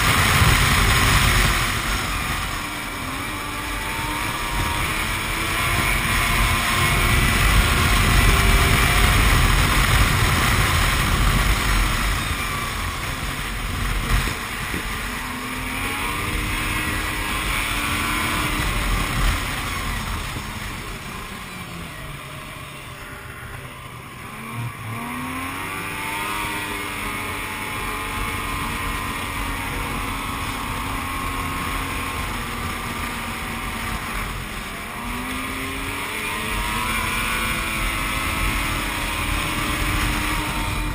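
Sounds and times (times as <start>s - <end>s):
snowmobile engine rumble: 0.0s - 40.9s.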